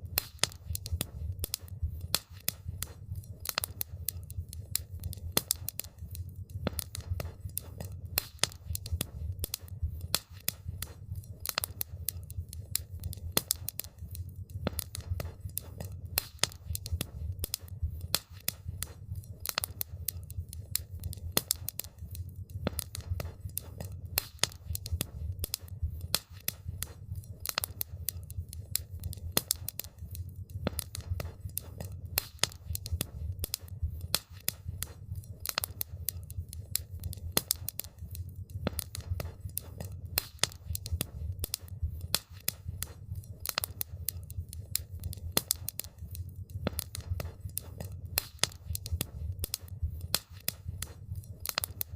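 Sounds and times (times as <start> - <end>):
steady low rumble: 0.0 - 51.2
campfire crackling and popping: 0.0 - 51.9.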